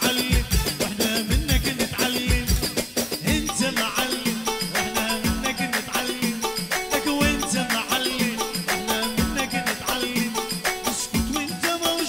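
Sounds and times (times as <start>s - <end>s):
fast steady drum beat: 0.0s - 12.0s.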